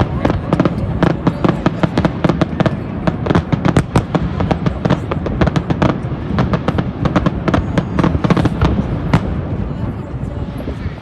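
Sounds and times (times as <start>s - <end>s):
distant fireworks rumble: 0.0s - 11.0s
fireworks bangs and crackles: 0.0s - 11.0s.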